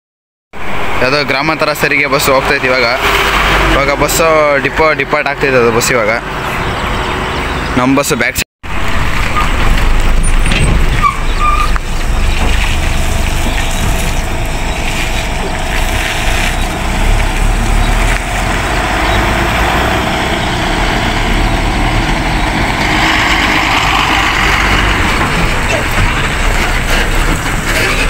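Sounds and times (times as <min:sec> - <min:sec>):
diesel bus engine rumbling: 0:00.5 - 0:28.0.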